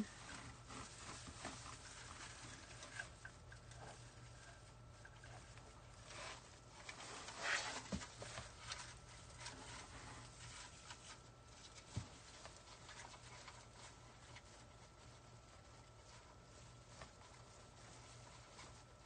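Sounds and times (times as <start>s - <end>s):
rustling handling noises: 0.0s - 19.0s
steady low hum: 0.0s - 19.0s.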